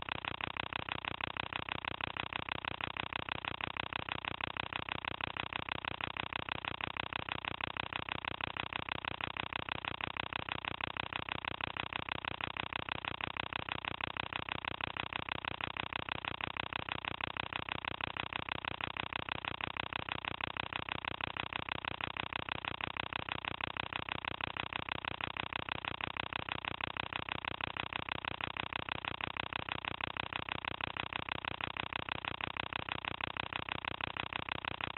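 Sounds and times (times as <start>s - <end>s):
film projector clatter: 0.0s - 34.9s.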